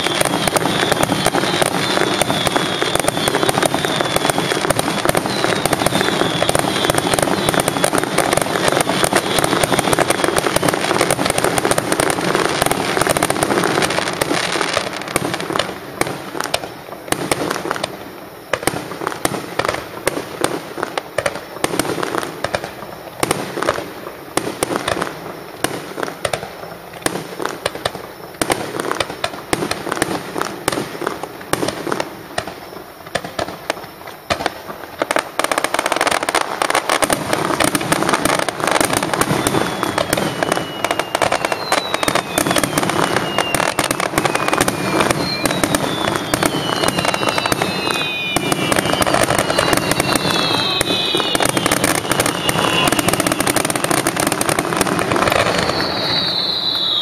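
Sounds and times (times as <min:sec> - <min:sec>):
falling firework whistles: 0:00.0 - 0:57.0
fireworks bursting and crackling: 0:00.0 - 0:57.0.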